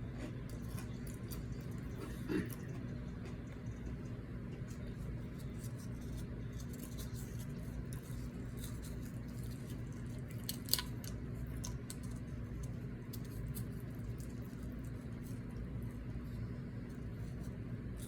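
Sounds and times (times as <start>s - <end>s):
chewing chips: 0.0s - 18.0s
steady low hum: 0.0s - 18.0s.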